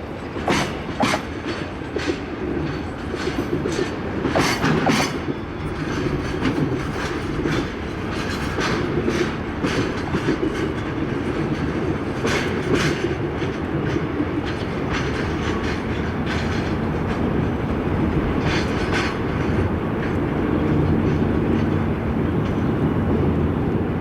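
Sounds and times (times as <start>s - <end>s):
train rumbling past: 0.0s - 24.0s
wheels clacking over rail joints: 0.2s - 23.4s.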